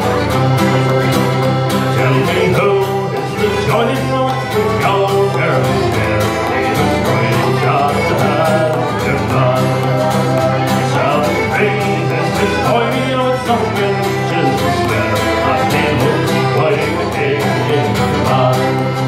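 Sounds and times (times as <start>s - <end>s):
plucked banjo: 0.0s - 19.0s
strummed acoustic guitar: 0.0s - 19.0s.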